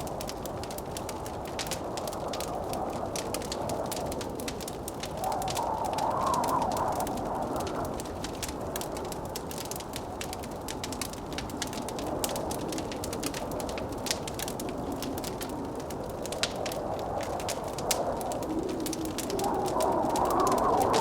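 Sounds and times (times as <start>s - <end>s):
howling blizzard wind: 0.0s - 21.0s
wood fire crackling: 0.0s - 21.0s.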